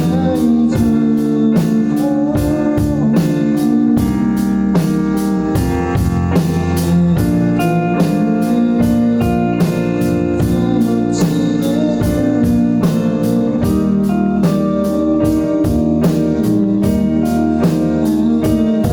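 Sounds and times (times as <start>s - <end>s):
guitar: 0.0s - 18.9s
steady drum beat: 0.0s - 18.9s
sustained chords: 0.0s - 18.9s.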